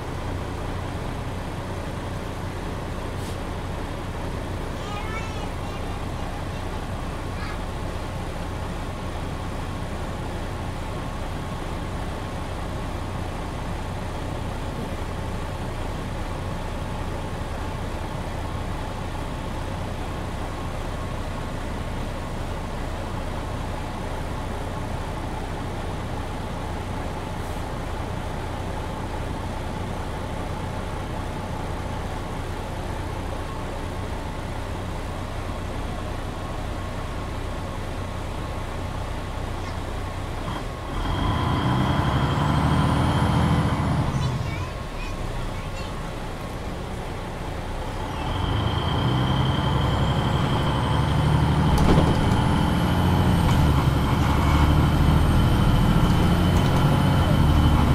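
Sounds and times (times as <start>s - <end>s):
bus diesel engine hum: 0.0s - 57.9s
road noise: 0.0s - 57.9s.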